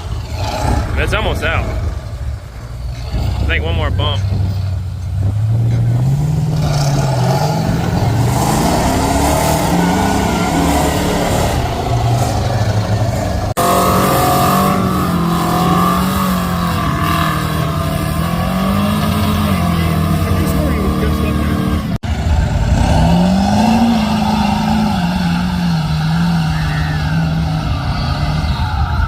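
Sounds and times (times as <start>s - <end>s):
truck engine revving hard: 0.0s - 29.0s.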